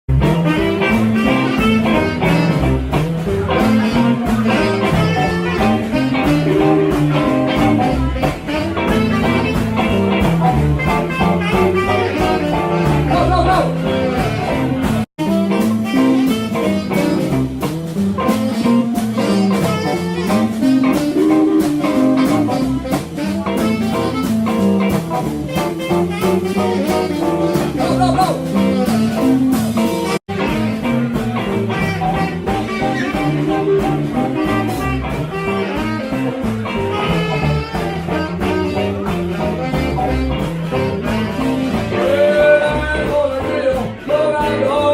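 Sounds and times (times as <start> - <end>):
blues music with guitar: 0.1 - 44.9.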